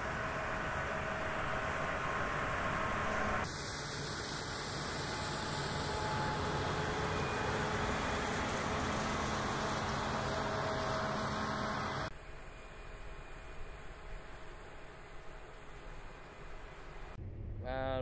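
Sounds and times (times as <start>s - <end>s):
combine harvester running: 0.0s - 15.6s.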